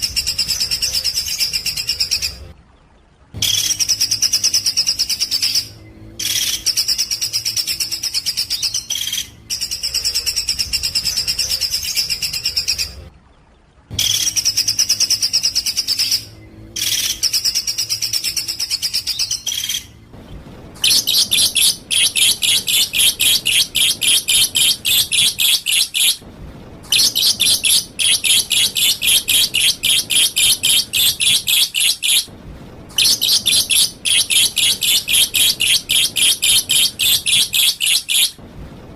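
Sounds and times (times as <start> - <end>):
songbird singing: 0.0 - 26.2, 26.9 - 32.3, 33.0 - 38.4.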